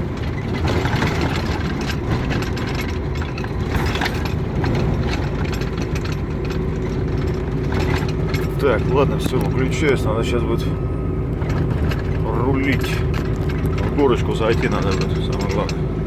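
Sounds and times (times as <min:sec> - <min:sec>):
tyre and road noise: 0:00.0 - 0:16.0
vehicle engine running: 0:00.0 - 0:16.0.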